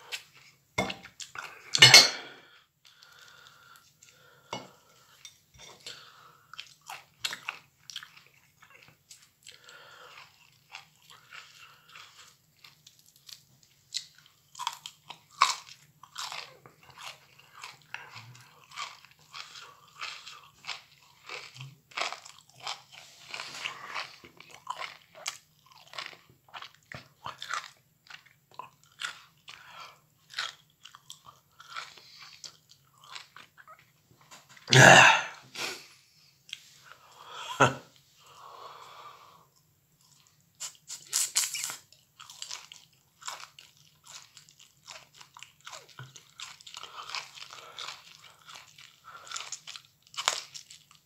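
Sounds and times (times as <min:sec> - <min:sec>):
person chewing crunchy food: 0:00.0 - 0:51.0.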